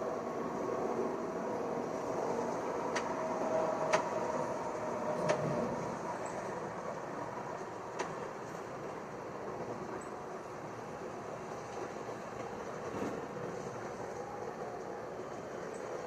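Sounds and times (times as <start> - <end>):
bus drivetrain and road noise: 0.0 - 16.0
faint steady tones: 0.0 - 16.0.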